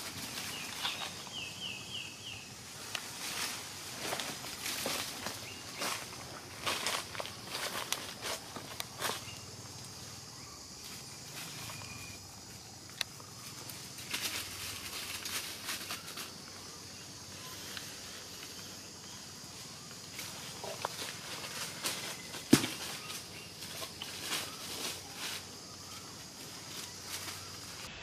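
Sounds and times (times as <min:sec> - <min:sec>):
forest ambience hiss: 0:00.0 - 0:28.0
rustling of dry leaves: 0:00.0 - 0:28.0.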